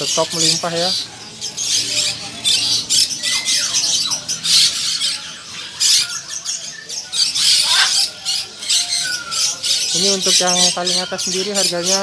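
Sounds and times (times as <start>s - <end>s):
parrots squawking harshly: 0.0s - 12.0s.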